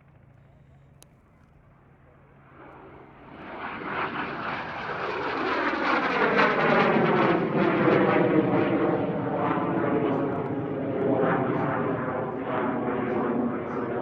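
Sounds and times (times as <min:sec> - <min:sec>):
propeller aircraft flying: 0:00.0 - 0:14.0.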